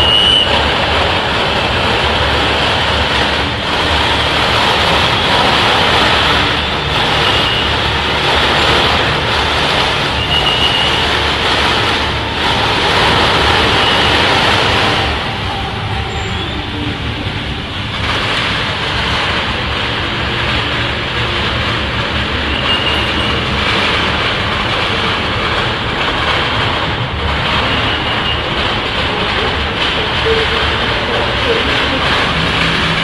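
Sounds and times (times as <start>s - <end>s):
rain falling on street: 0.0s - 33.0s
street traffic rumble: 0.0s - 33.0s.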